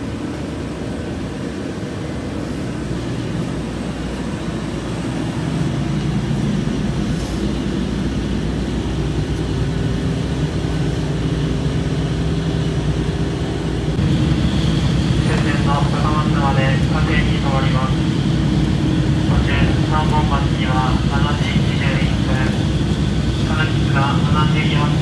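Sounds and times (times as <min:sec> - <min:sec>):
diesel engine rumble: 0:00.0 - 0:25.0
low engine hum: 0:00.0 - 0:25.0.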